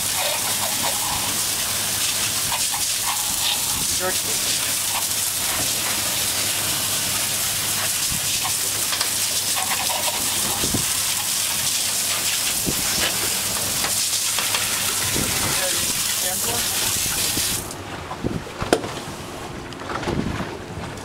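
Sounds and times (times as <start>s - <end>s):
hose spraying water on deck: 0.0s - 17.8s.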